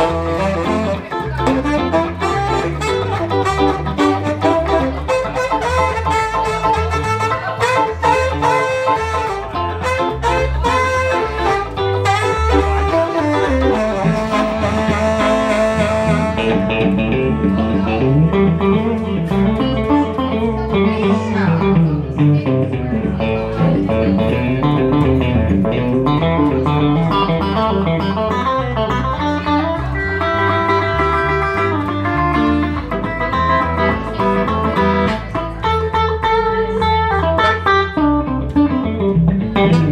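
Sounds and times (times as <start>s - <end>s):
electric bass: 0.0s - 39.9s
electric guitar lead: 0.0s - 39.9s.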